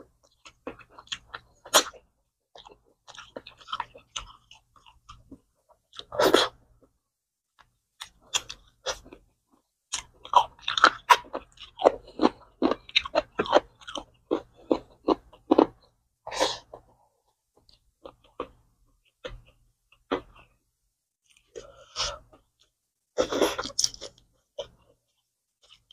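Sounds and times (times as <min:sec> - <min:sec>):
person chewing and eating: 0:00.1 - 0:07.0, 0:07.6 - 0:17.0, 0:17.6 - 0:25.9.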